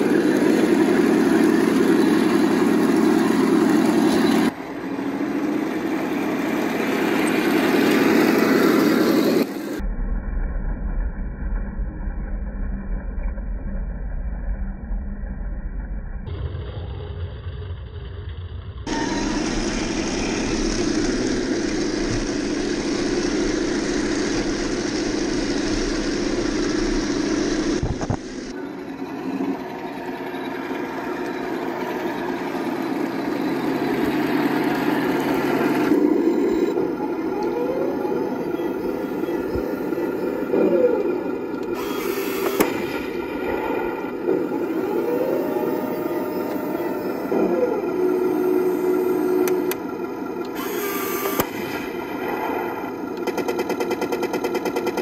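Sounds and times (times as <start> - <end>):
simulated tank engine sound: 0.0 - 55.0
whirring drive motors and tracks: 0.0 - 55.0.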